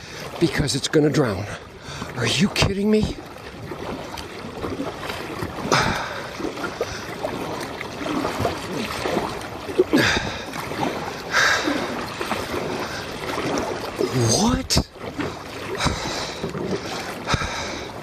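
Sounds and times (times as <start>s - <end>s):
kayak paddle splashing: 0.0s - 18.0s
water trickling along hull: 0.0s - 18.0s.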